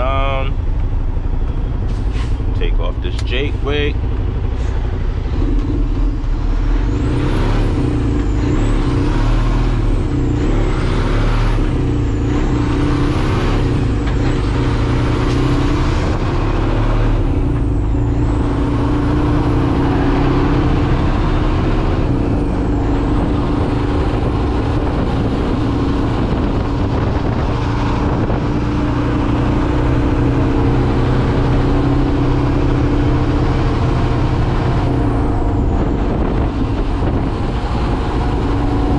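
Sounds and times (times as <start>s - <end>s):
diesel truck engine accelerating: 0.0s - 38.9s.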